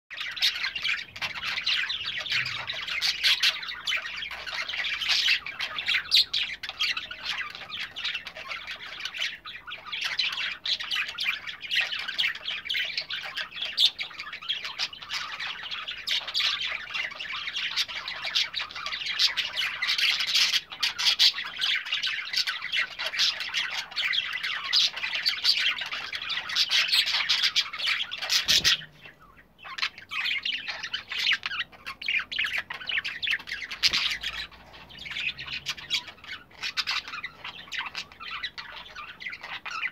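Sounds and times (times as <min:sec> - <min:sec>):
budgerigars chattering and warbling: 0:00.1 - 0:39.9.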